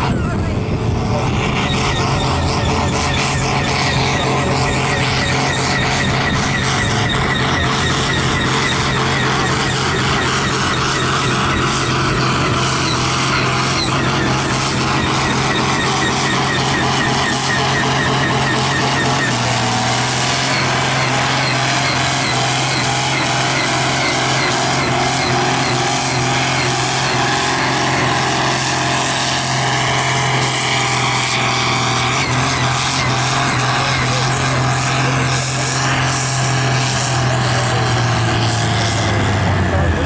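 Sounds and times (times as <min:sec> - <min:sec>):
tractor diesel engine running hard: 0:00.0 - 0:40.0.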